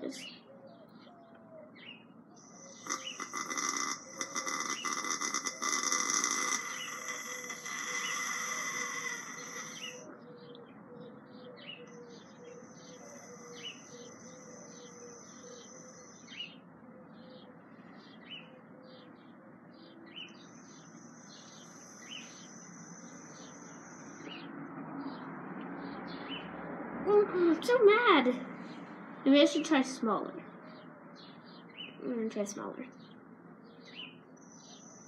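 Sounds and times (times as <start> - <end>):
songbirds chirping and singing: 0.0 - 35.0.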